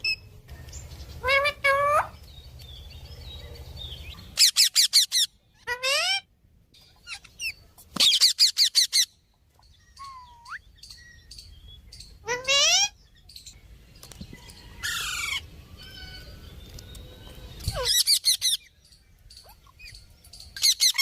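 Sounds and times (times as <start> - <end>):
parrot calling and chirping: 1.0 - 13.6, 14.7 - 21.0.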